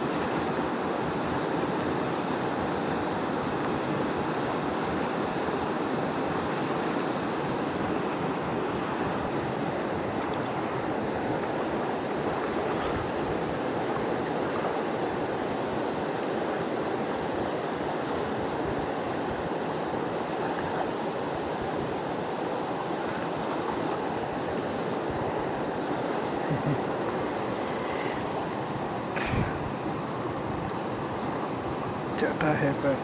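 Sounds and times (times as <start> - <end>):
fast-flowing river rushing: 0.0 - 33.0.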